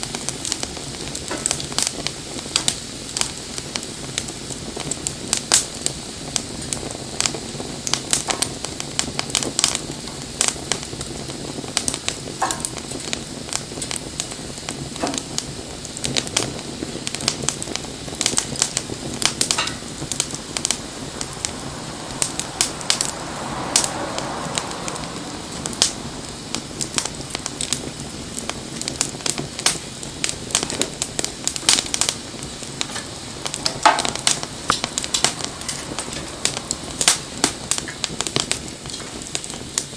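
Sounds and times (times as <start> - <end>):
soft hiss: 0.0 - 39.9
wood fire crackling and popping: 0.0 - 39.9.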